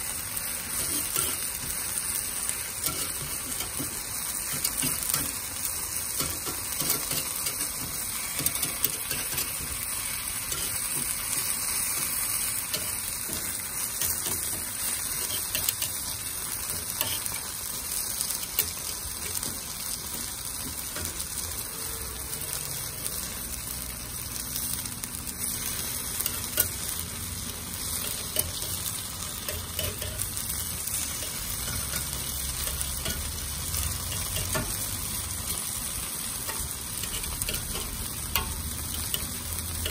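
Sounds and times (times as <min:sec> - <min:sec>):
batter sizzling on griddle: 0:00.0 - 0:39.9.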